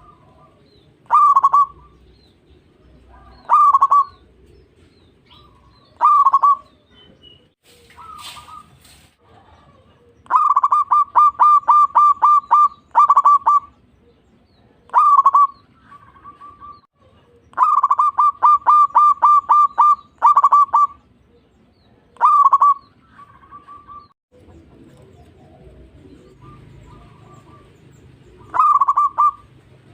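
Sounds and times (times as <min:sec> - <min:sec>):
zebra dove cooing: 0:00.0 - 0:13.8, 0:14.6 - 0:21.0, 0:21.9 - 0:29.9.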